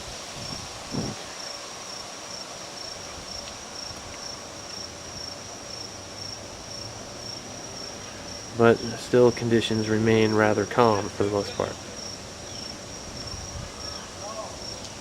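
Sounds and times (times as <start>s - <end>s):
insects trilling: 0.0s - 15.0s
light breeze hiss: 0.0s - 15.0s.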